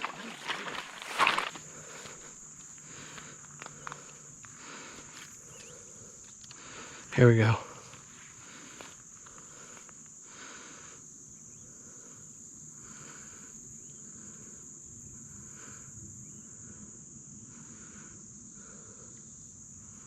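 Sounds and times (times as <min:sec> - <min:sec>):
high-pitched insect chorus: 0:00.0 - 0:20.0
soft pulsing insect calls: 0:00.0 - 0:20.0.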